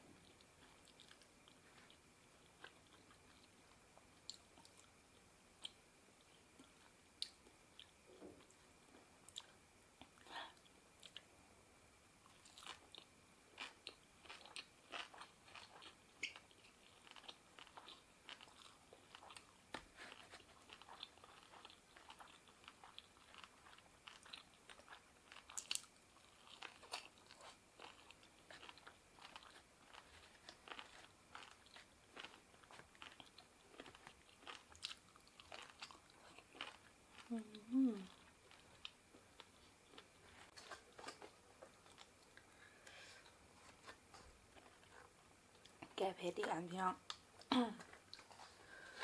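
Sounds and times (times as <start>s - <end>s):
chewing crunchy food: 0.2s - 11.3s, 12.2s - 46.0s.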